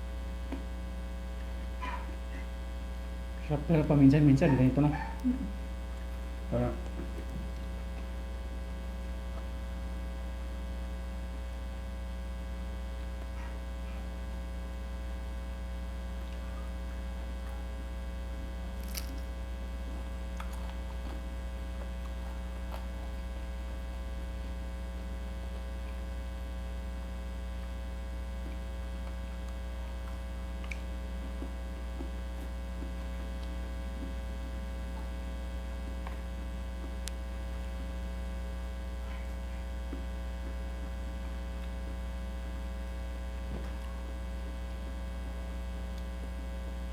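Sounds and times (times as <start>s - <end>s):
electrical mains hum: 0.0s - 46.9s.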